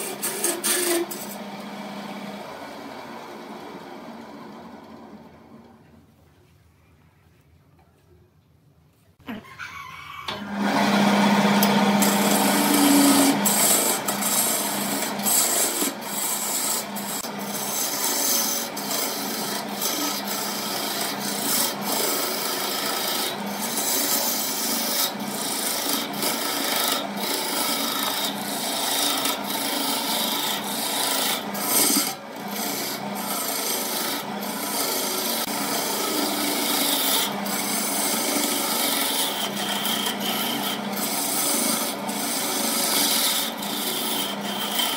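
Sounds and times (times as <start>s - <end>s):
chisel scraping spinning wood: 0.0s - 5.3s, 9.7s - 44.9s
lathe motor humming: 0.0s - 5.6s, 10.4s - 44.9s.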